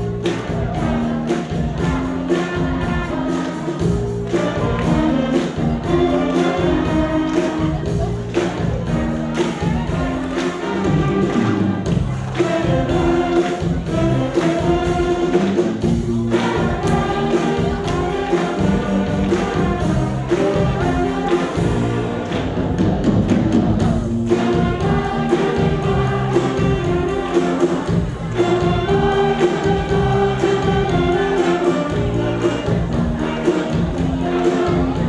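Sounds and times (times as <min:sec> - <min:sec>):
concert band playing chords: 0:00.0 - 0:35.0.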